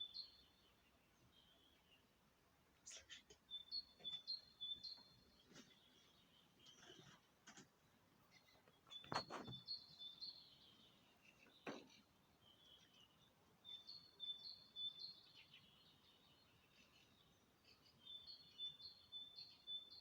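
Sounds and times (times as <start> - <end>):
birds singing: 0.0 - 20.0.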